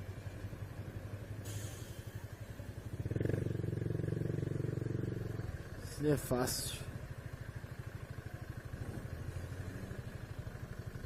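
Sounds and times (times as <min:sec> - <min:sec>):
motorcycle engine running: 0:00.0 - 0:01.4, 0:02.1 - 0:11.0.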